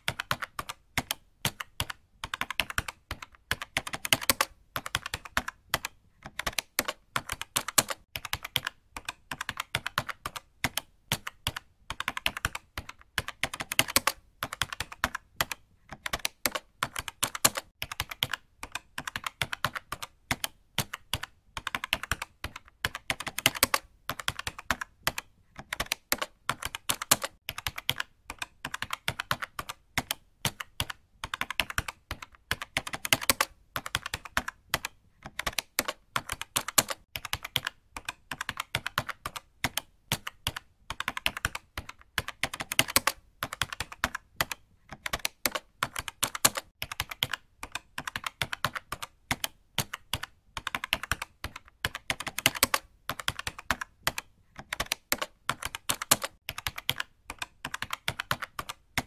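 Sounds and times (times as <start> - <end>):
keyboard keys clicking: 0.0 - 59.0.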